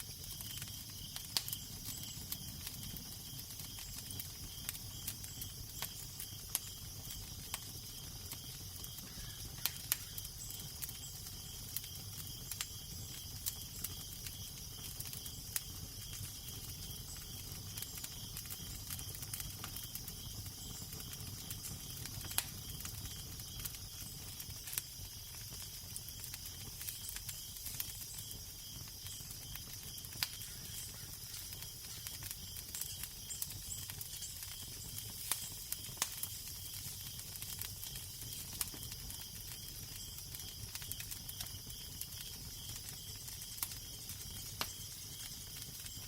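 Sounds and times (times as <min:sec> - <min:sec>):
fireplace crackling and popping: 0:00.0 - 0:46.0.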